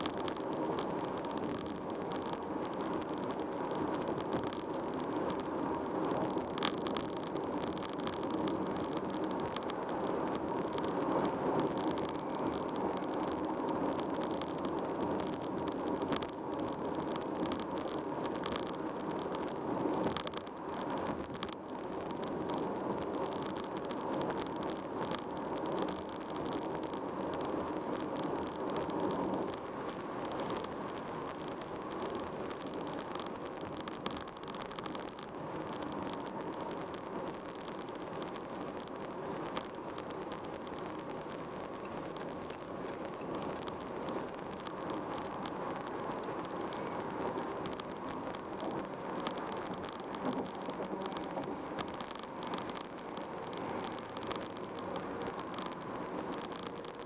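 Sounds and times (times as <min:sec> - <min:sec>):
car road and tyre noise: 0:00.0 - 0:57.0.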